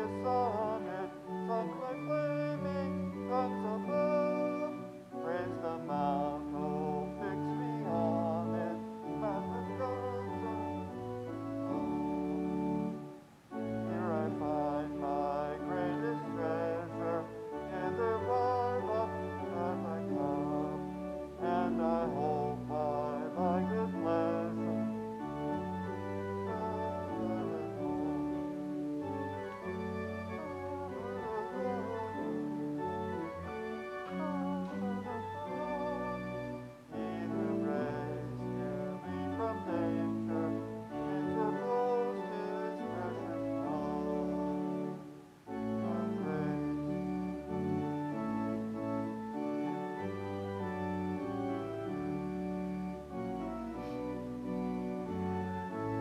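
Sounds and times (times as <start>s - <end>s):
voices singing: 0.0s - 11.1s, 13.6s - 48.2s
church organ playing a hymn: 0.0s - 56.0s.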